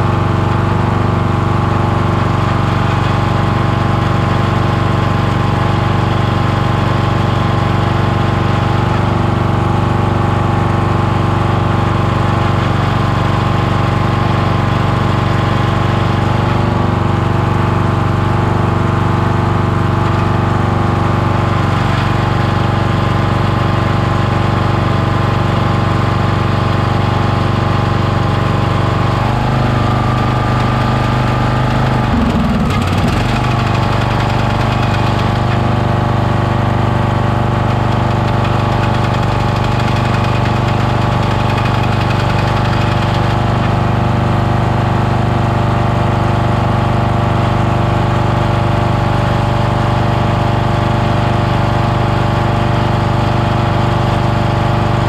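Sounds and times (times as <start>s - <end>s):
lawn tractor engine running: 0.0s - 55.0s.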